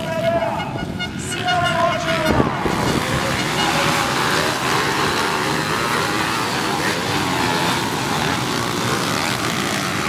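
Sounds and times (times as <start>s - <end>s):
pit bike engines revving: 0.0s - 10.0s.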